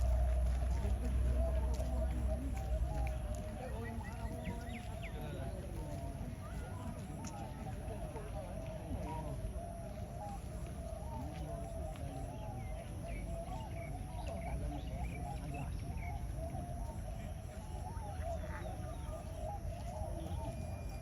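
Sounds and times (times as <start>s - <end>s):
doves cooing: 0.0s - 21.0s.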